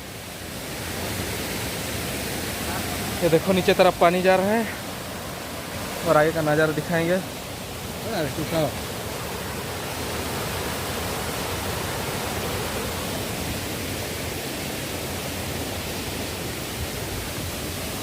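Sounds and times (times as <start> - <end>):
waterfall rushing water: 0.0 - 18.0.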